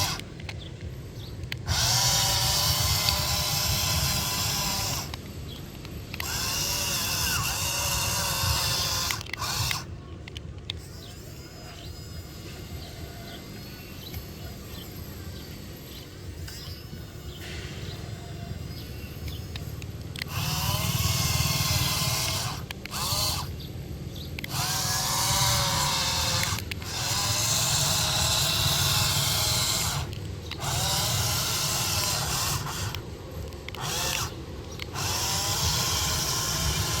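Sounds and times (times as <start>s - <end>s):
toy electric motor whirring: 0.0s - 37.0s.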